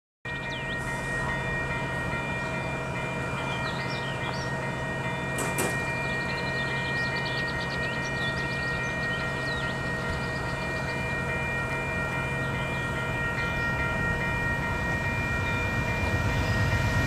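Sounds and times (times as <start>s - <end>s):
distant train hum: 0.3s - 17.0s.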